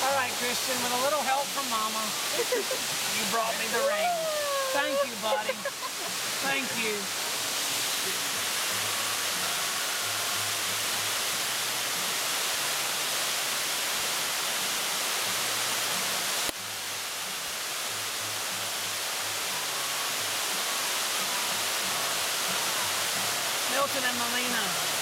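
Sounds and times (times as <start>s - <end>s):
waterfall and creek rushing: 0.0s - 25.0s.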